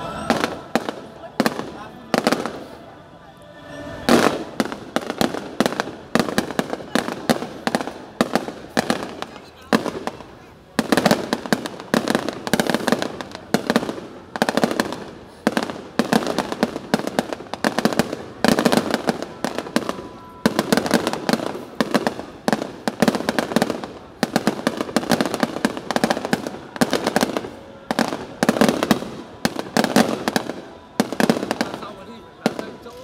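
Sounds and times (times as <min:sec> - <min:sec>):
fireworks banging and crackling: 0:00.0 - 0:33.0.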